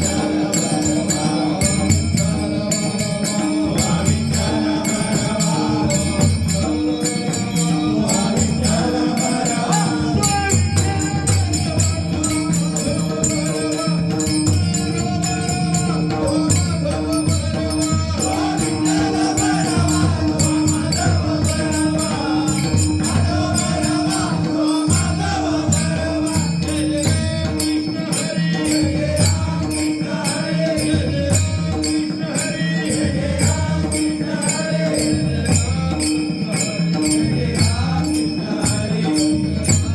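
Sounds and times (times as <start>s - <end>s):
barrel drum beat: 0.0s - 39.9s.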